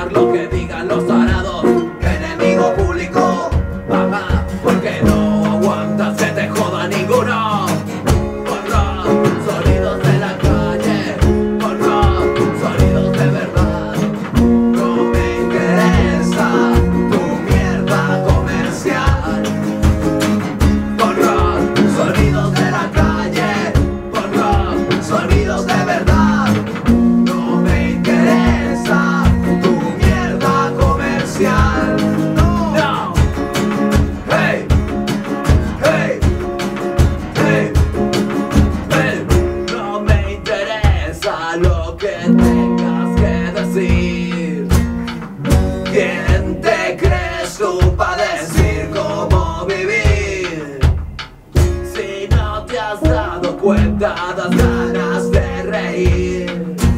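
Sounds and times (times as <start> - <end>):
electric guitar lead line: 0.0 - 56.9
quick drum beat: 0.0 - 56.9
strummed acoustic guitar: 0.0 - 56.9.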